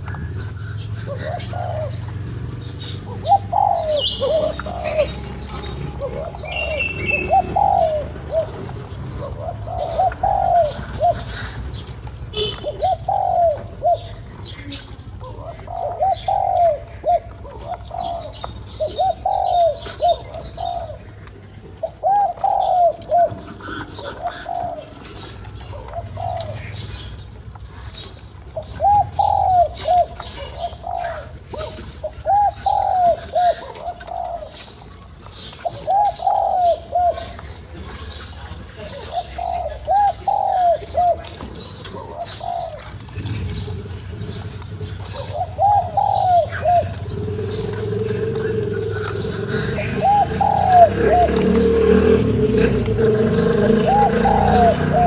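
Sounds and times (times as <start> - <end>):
dove cooing: 0.0 - 55.0
small birds chirping: 0.0 - 55.0.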